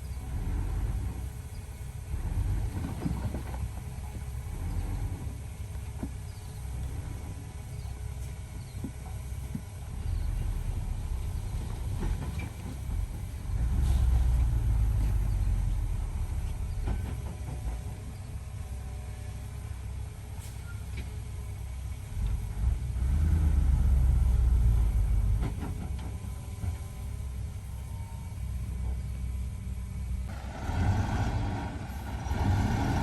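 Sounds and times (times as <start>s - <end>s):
diesel machinery engine rumble: 0.0s - 33.0s.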